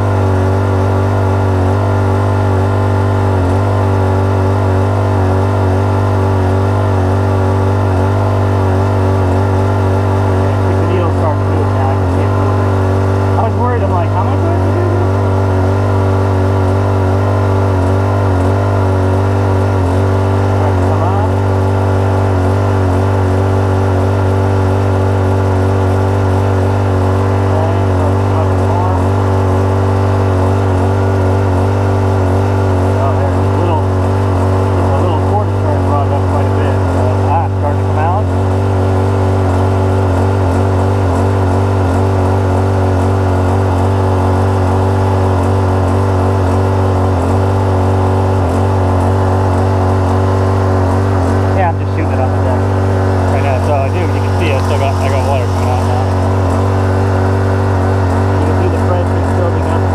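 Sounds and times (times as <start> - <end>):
motor and pump humming: 0.0 - 59.9
small petrol engine running: 0.0 - 59.9.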